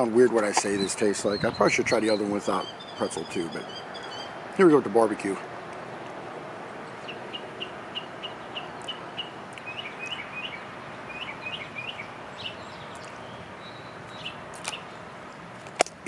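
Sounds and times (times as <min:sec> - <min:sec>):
songbird chirping: 0:00.0 - 0:15.5
outdoor background rush: 0:00.0 - 0:16.0.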